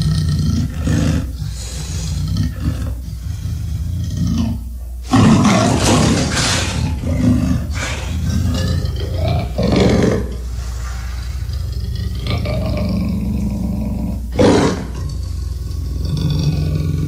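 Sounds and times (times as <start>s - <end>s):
dinosaur roars: 0.0s - 17.0s.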